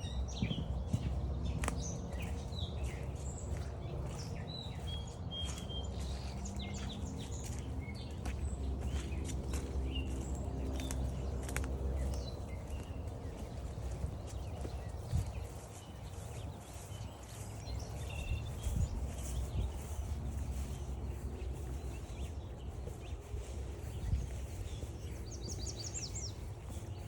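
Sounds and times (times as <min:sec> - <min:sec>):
steady low rumble: 0:00.0 - 0:27.0
wild birds chirping and singing: 0:00.0 - 0:27.0.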